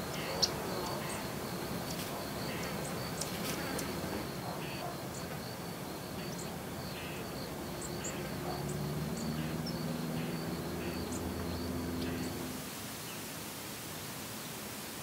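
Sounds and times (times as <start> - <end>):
insects trilling: 0.0 - 12.7
background hiss: 0.0 - 15.0.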